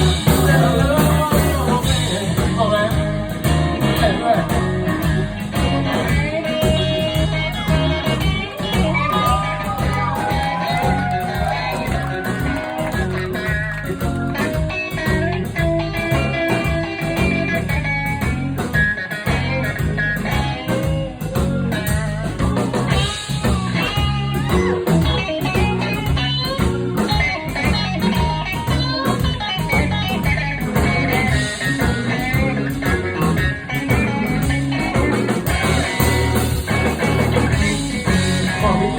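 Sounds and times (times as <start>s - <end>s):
blues band playing: 0.0s - 38.9s.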